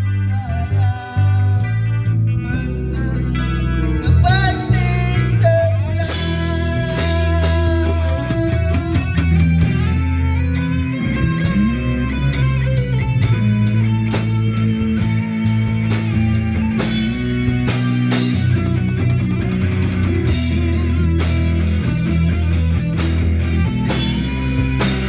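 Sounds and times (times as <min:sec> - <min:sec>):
drum kit: 0:00.0 - 0:25.0
electric guitars: 0:00.0 - 0:25.0.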